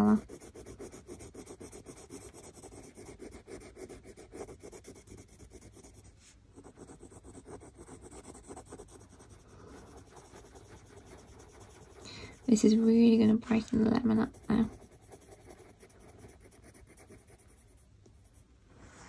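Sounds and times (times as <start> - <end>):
pencil scratching on paper: 0.0 - 18.4.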